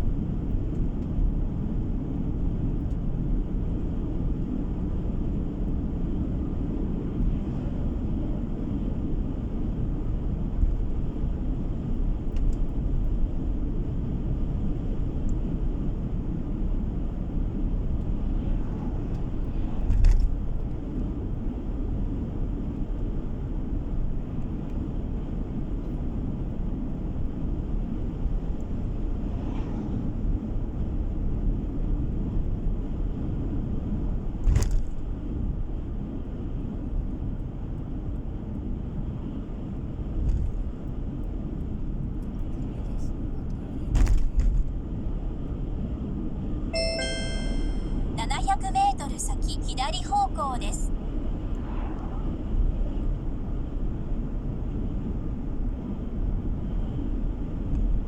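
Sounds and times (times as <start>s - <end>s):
car tyres and engine rumble: 0.0s - 46.6s, 50.9s - 58.0s.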